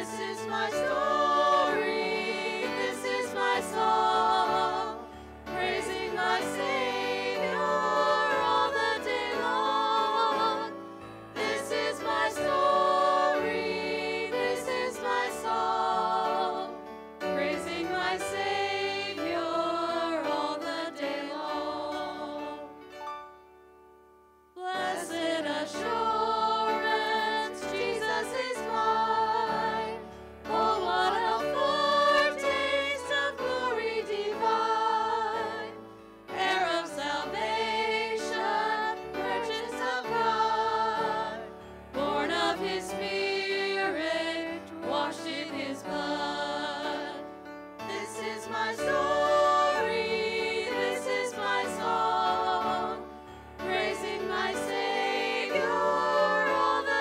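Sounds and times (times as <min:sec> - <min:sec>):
group singing worship song: 0:00.0 - 0:22.7, 0:24.6 - 0:57.0.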